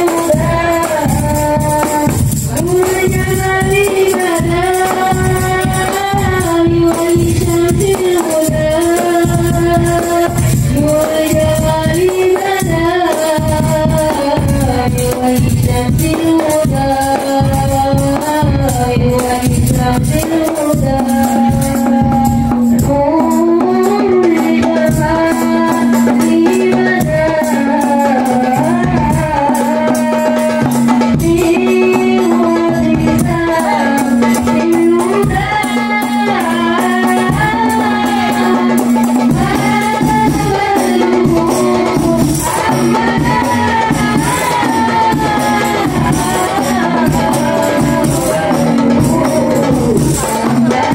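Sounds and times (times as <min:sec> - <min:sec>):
bass drum: 0:00.0 - 0:27.4, 0:36.6 - 0:50.9
fast hand drumming: 0:00.0 - 0:50.9
voices singing: 0:00.0 - 0:50.9.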